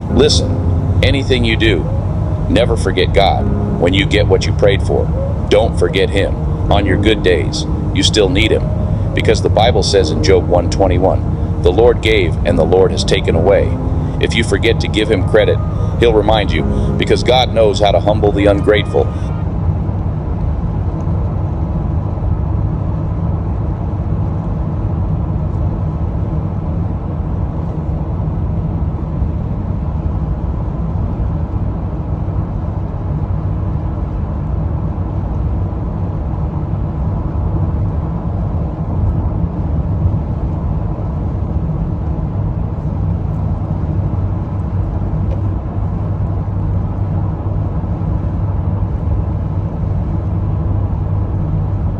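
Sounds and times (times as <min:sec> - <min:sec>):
car road and engine noise: 0:00.0 - 0:51.9.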